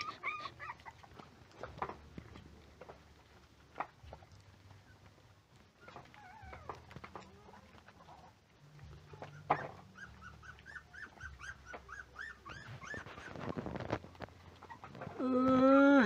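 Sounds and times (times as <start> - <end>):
puppies yelping: 0.0 - 2.0, 2.9 - 15.2
puppies whining: 0.0 - 16.0.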